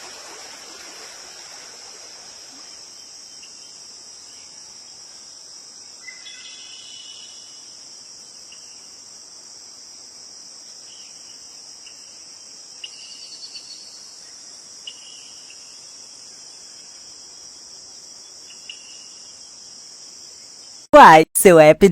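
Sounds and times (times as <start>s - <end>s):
high-pitched insect chorus: 1.3s - 20.8s.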